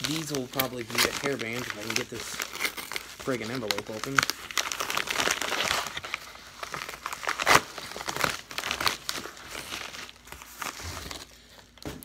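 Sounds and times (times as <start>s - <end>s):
paper mailer crinkling: 0.0s - 11.8s.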